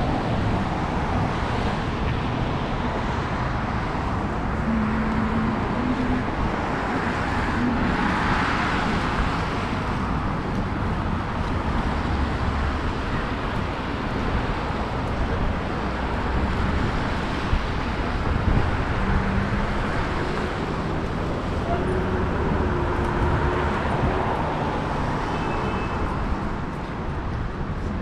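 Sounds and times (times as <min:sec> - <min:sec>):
cars driving past: 0:00.0 - 0:28.0.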